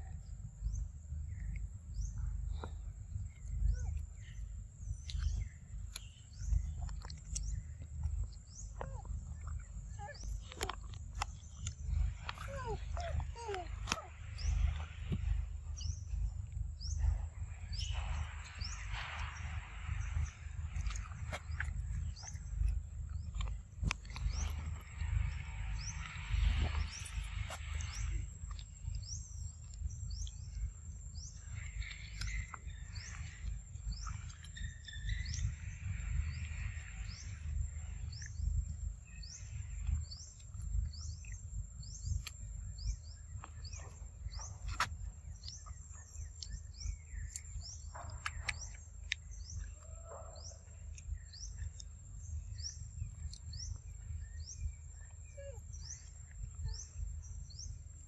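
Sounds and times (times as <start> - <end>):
small bird chirping: 0.0 - 57.9
steady low rumble: 0.0 - 58.0.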